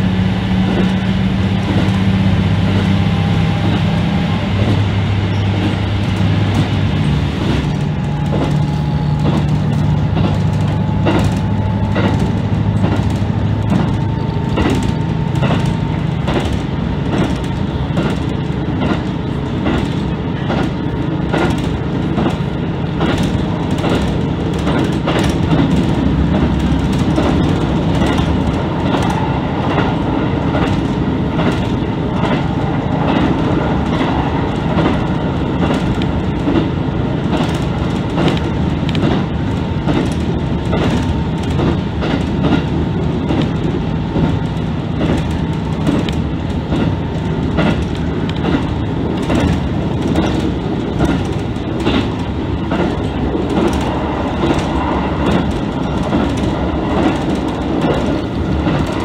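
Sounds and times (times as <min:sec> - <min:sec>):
diesel engine hum: 0:00.0 - 0:59.0
rumble of train wheels: 0:00.0 - 0:59.0
wheels clacking over rail joints: 0:00.0 - 0:59.0.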